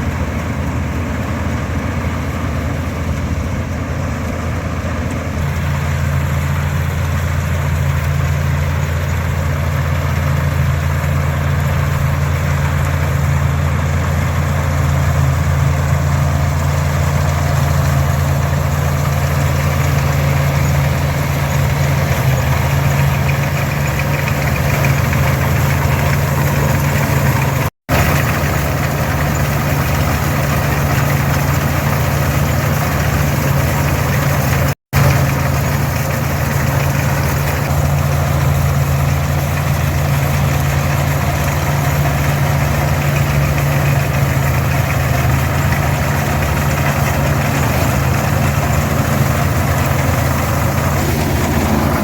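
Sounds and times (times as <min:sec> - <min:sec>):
tractor engine and combine drone: 0:00.0 - 0:52.0.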